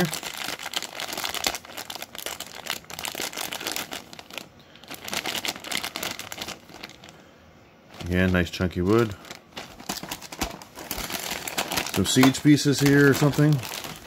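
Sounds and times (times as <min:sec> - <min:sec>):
packaging crinkling: 0:00.0 - 0:07.2, 0:07.9 - 0:14.0.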